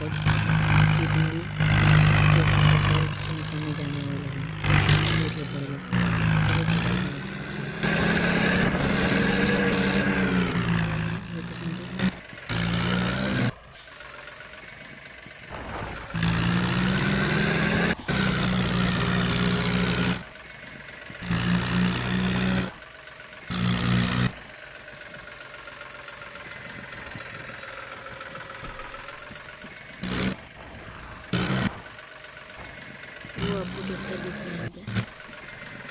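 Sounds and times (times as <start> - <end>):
vehicle engine running: 0.0 - 35.9.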